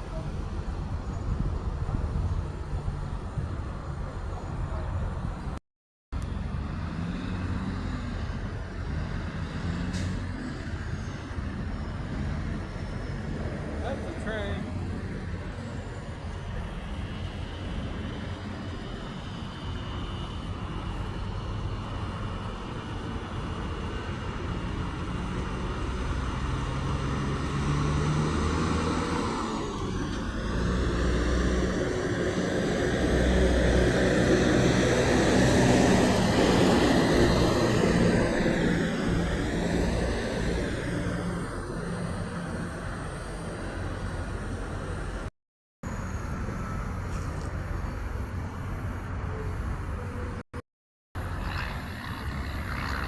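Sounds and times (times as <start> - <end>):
traffic rumble: 0.0 - 5.6, 6.2 - 50.5, 51.2 - 53.0.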